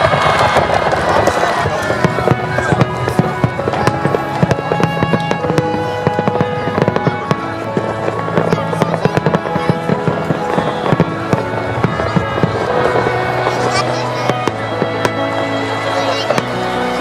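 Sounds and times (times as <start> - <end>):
fireworks crackling and popping: 0.0 - 17.0
music with held notes: 0.0 - 17.0.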